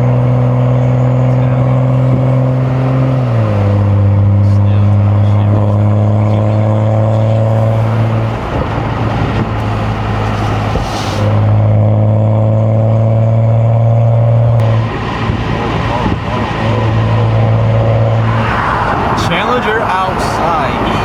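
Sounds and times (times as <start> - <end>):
car engine at steady revs: 0.0 - 21.0.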